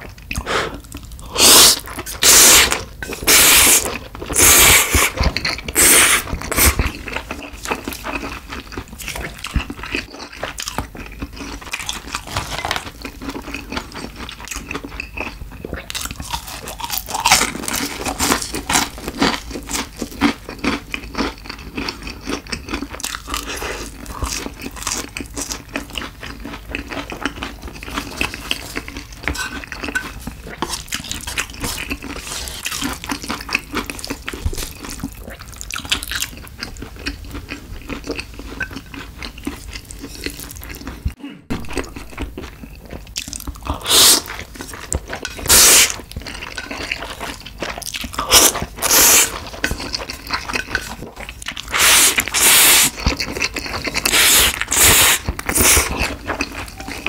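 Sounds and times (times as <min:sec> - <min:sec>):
chewing crunchy fried food: 0:00.0 - 0:57.0.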